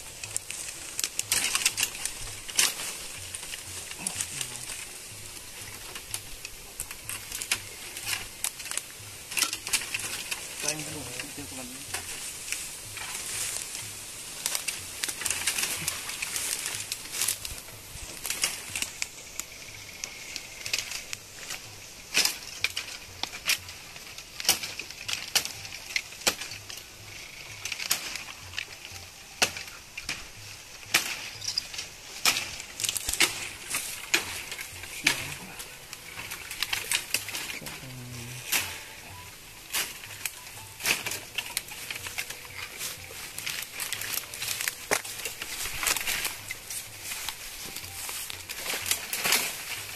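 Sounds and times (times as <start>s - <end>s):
bamboo leaves rustling: 0.0s - 49.9s
bamboo snapping and cracking: 0.0s - 49.9s.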